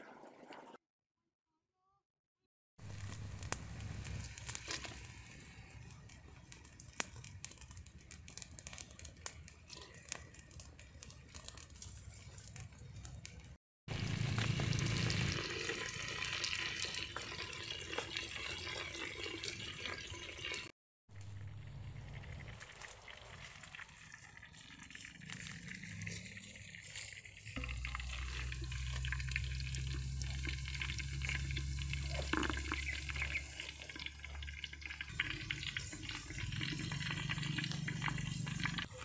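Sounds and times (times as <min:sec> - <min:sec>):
wood fire crackling and popping: 0:02.8 - 0:19.6, 0:21.2 - 0:39.0.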